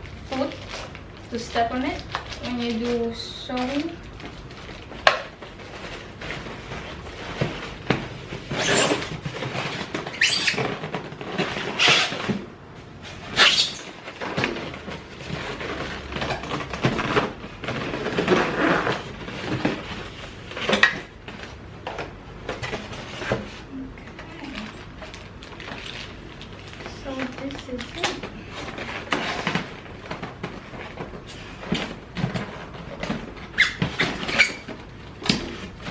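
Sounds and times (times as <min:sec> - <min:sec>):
packaging rustling and scraping: 0:00.0 - 0:35.9.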